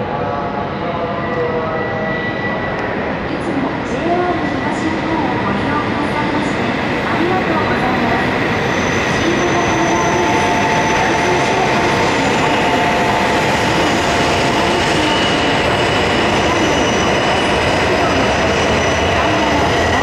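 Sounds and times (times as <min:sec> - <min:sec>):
train wheels rushing: 0:02.8 - 0:20.0.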